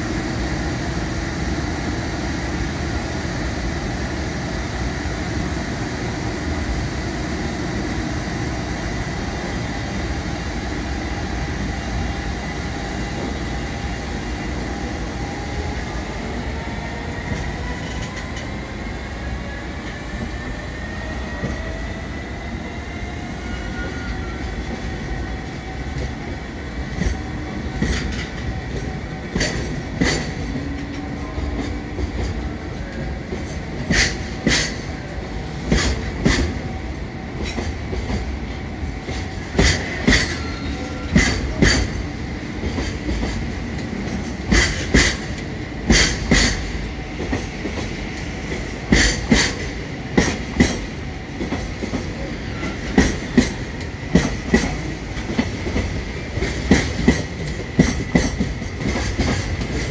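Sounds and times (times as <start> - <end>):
train rumble: 0.0 - 59.9
train wheels clickety-clack: 11.2 - 59.9.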